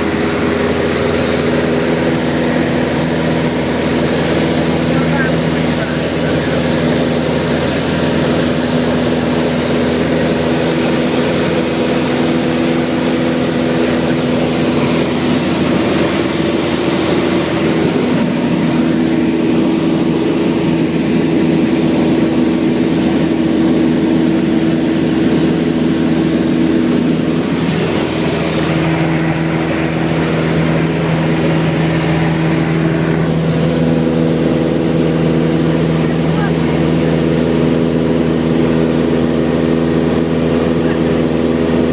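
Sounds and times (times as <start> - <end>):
aircraft engine droning in cabin: 0.0 - 41.9.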